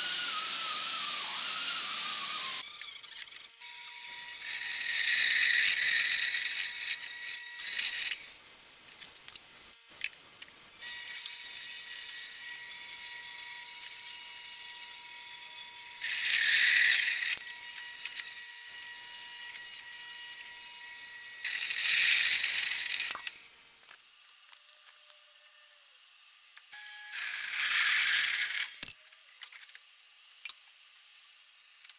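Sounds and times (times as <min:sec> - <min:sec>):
band saw cutting steel: 0:00.0 - 0:23.9, 0:26.8 - 0:29.0.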